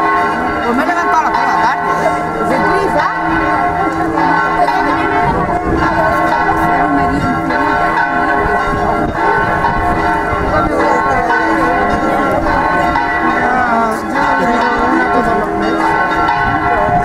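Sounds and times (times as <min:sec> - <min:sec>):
church bells ringing: 0:00.0 - 0:17.0
crowd talking: 0:00.0 - 0:17.0.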